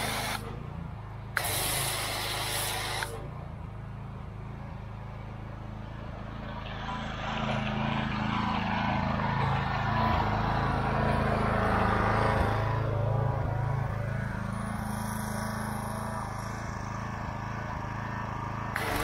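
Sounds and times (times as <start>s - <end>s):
small engine running: 0.0s - 3.8s, 4.5s - 19.0s.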